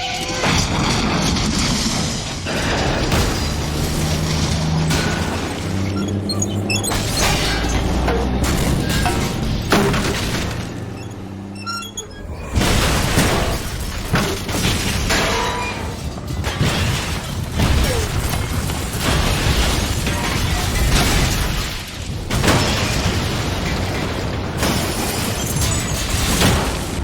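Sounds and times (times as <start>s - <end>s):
smashing debris and booms: 0.0s - 11.1s, 12.2s - 27.0s
truck smashing through buildings: 0.0s - 27.0s.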